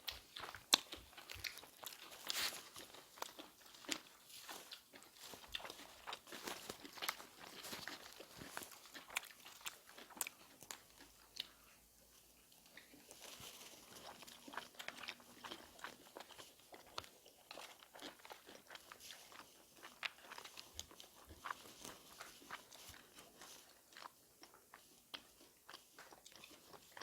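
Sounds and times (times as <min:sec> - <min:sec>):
chewing and crunching food: 0:00.0 - 0:27.0.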